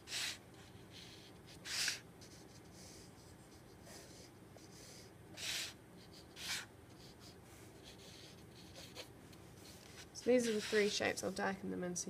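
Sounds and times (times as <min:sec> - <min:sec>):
pencil drawing on paper: 0:01.0 - 0:11.4.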